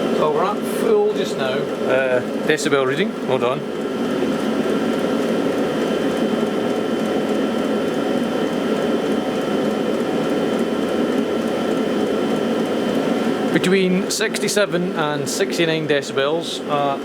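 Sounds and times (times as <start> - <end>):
air heater rushing: 0.0 - 17.0
thin steady whining tones: 0.0 - 17.0.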